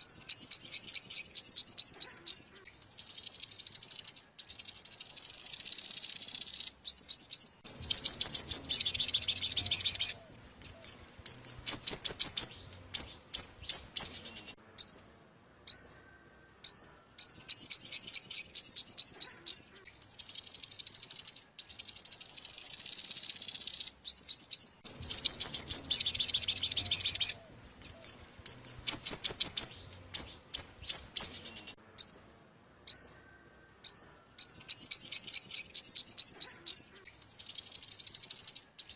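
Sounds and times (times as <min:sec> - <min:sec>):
bird short chirps: 0:00.0 - 0:38.9
sunbird high trills: 0:00.0 - 0:38.9.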